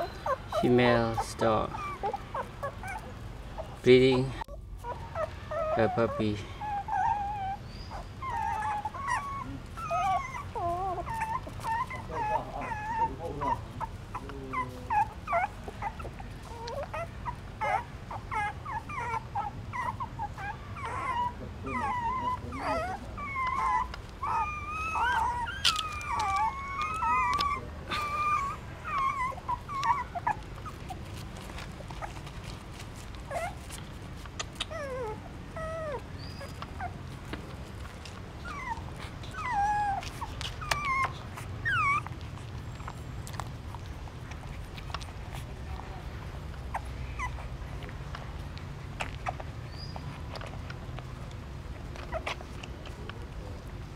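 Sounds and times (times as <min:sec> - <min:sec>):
puppies squeaking and whimpering: 0:00.0 - 0:53.9.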